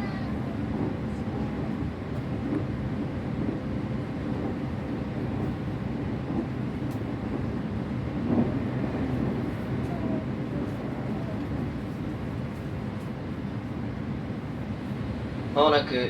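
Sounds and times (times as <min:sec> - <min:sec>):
train wheels rumbling on rails: 0:00.0 - 0:15.6.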